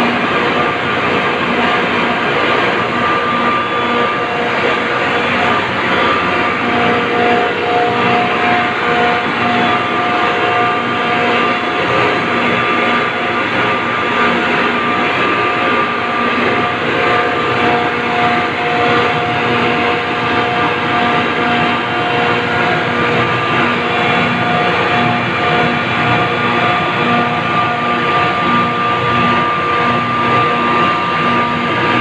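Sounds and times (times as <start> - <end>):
refrigeration compressors droning: 0.0 - 32.0.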